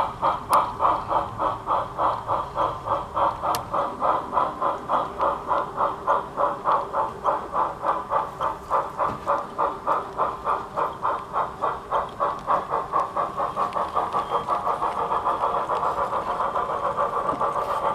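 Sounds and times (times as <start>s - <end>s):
model steam locomotive chuffing: 0.0s - 17.9s.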